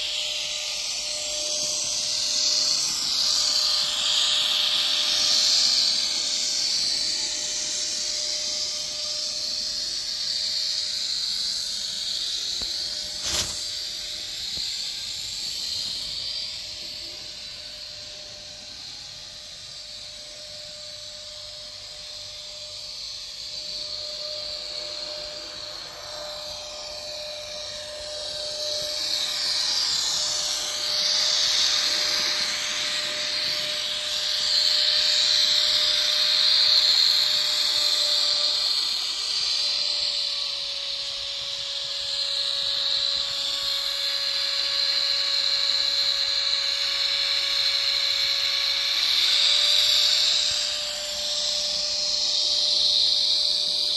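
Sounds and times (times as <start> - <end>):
small electric motor whine: 0.0 - 53.9
wheels hissing on rails: 0.0 - 53.9.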